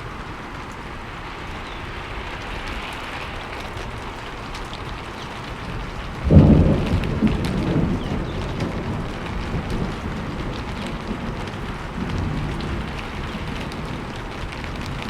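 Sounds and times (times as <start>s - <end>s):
steady rain falling: 0.0s - 15.0s
thunderclap rumbling: 0.0s - 15.0s.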